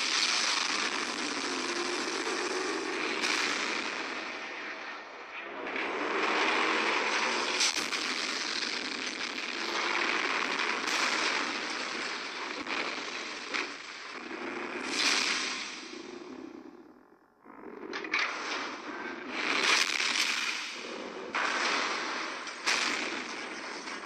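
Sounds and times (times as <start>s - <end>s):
sharp cracks: 0.0s - 5.0s, 5.7s - 16.4s, 17.9s - 24.0s.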